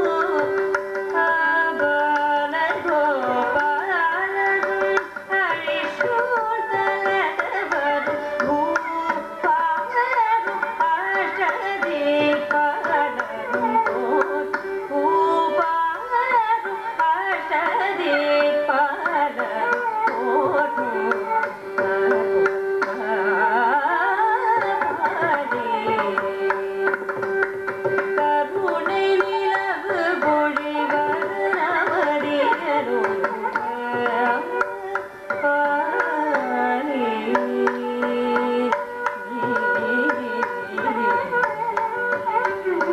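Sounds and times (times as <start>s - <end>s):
violin melody: 0.0s - 42.9s
woman singing: 0.0s - 42.9s.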